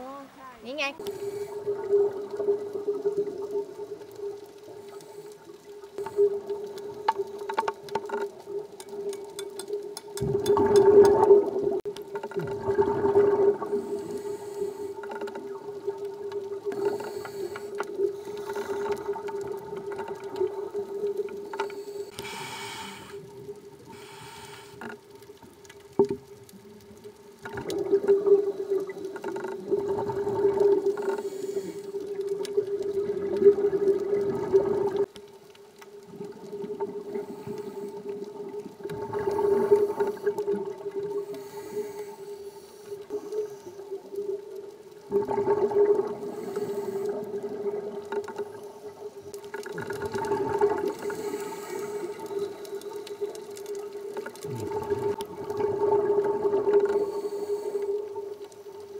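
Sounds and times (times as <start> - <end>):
exhaled bubbles underwater: 1.0 - 22.4, 25.1 - 35.2, 35.9 - 42.1, 43.0 - 58.9.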